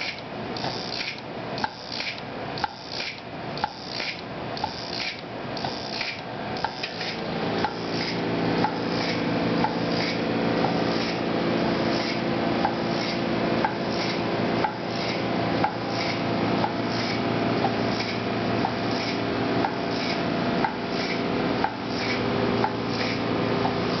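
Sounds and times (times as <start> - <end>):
pneumatic pusher knocking: 0.0 - 24.0
steady hum: 0.0 - 24.0.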